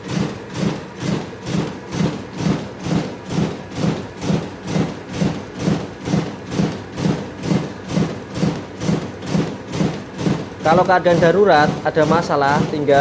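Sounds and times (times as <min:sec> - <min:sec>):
duplicator machine clattering: 0:00.0 - 0:13.0.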